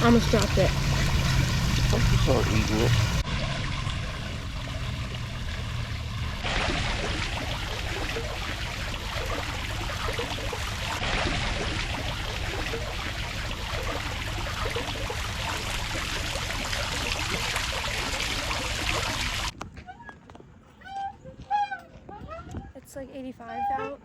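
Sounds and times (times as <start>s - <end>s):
water fountain splashing: 0.0s - 19.5s.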